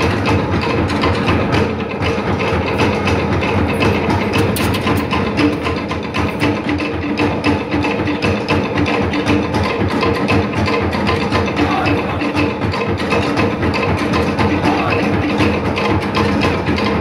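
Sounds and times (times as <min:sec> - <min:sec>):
fast steady drumming: 0:00.0 - 0:17.0.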